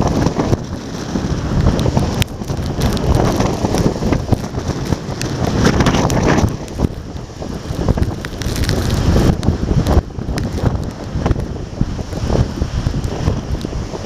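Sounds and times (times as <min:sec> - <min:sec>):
spray falling like rain: 0:00.0 - 0:14.0
strong wind buffeting microphone: 0:00.0 - 0:14.0
surf breaking on a wall: 0:00.0 - 0:14.0.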